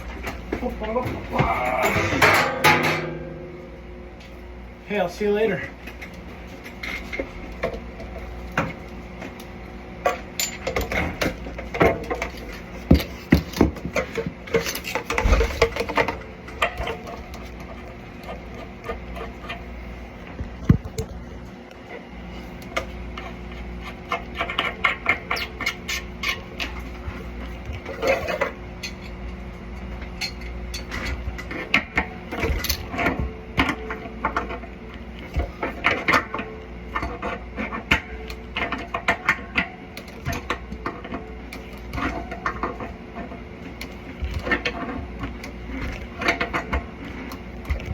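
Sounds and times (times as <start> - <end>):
hand tools and metal clanking: 0.0 - 19.9, 22.6 - 47.9
steady low hum: 0.0 - 47.9.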